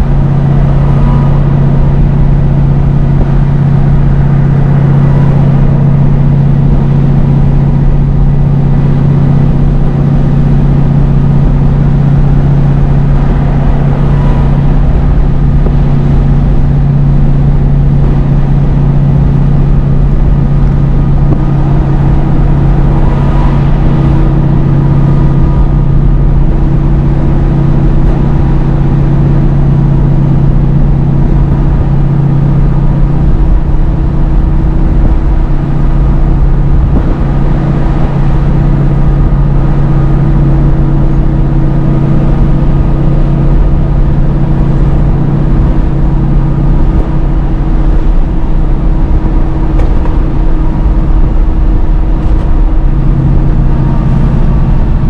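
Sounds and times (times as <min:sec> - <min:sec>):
truck engine droning: 0:00.0 - 0:55.0.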